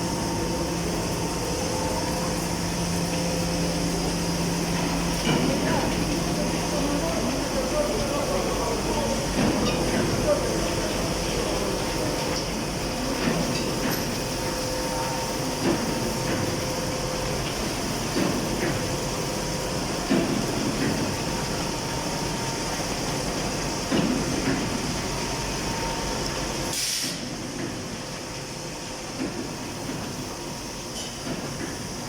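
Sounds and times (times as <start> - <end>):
furnace industrial noise: 0.0 - 32.0.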